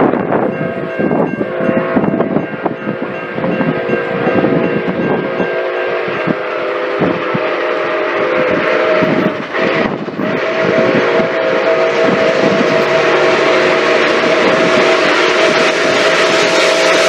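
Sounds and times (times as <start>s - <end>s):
steam locomotive chime whistle: 0.0s - 17.0s
train knocking and clattering: 0.0s - 17.0s.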